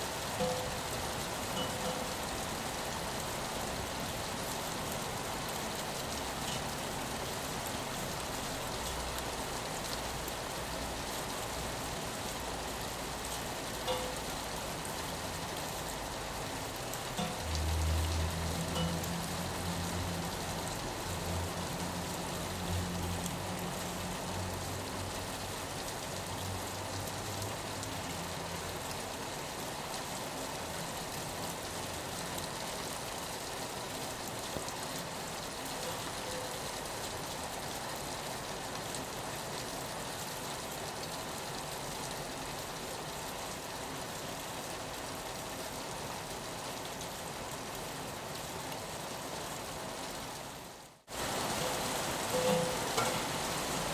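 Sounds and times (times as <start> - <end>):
rain pattering on a window: 0.0 - 53.9.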